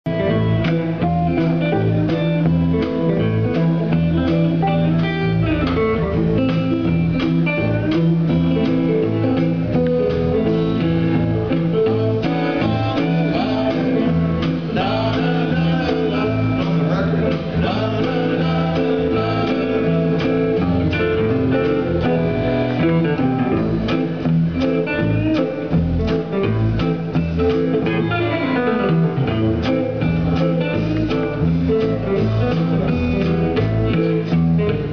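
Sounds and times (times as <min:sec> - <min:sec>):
electric guitars playing: 0:00.0 - 0:34.9
drum kit beat: 0:00.1 - 0:34.9.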